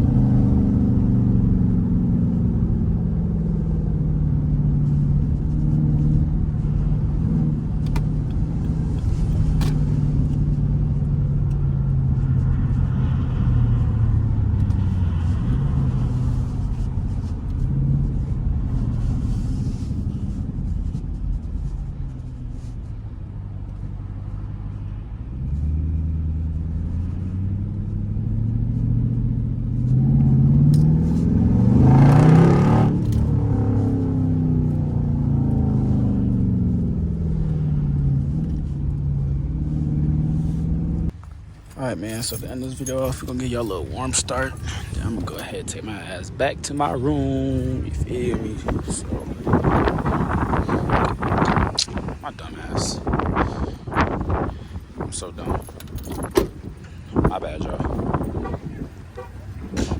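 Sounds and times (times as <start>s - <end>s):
car exhaust while driving: 0.0s - 59.9s.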